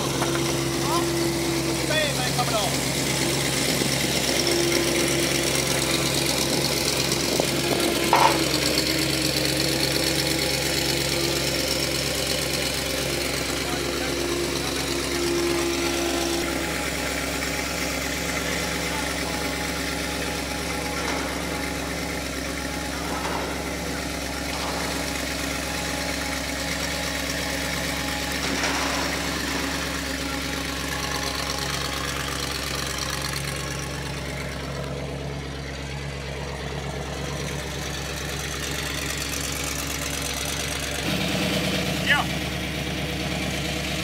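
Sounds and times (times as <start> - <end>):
engine idling: 0.0 - 44.0.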